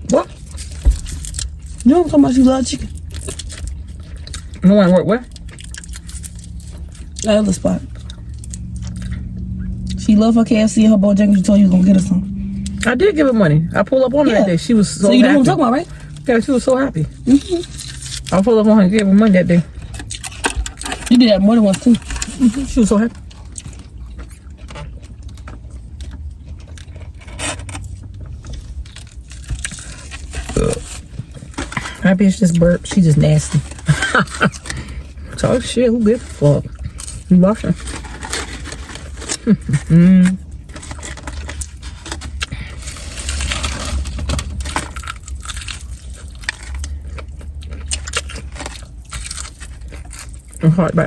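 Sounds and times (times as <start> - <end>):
food handling clicks and rustles: 0.0 - 11.6, 13.8 - 51.0
low steady hum: 0.0 - 51.0.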